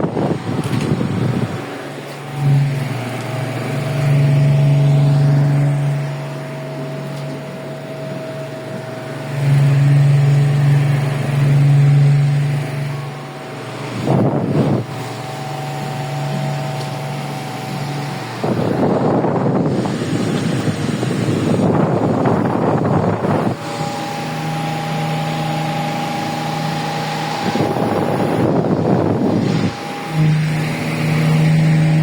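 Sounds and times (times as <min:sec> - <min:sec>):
electric fan motor hum: 0:00.0 - 0:32.0
fan air buffeting microphone: 0:00.0 - 0:32.0.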